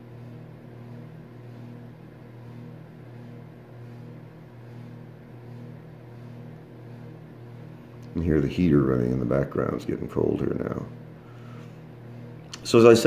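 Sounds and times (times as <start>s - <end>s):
room heater humming: 0.0s - 13.0s.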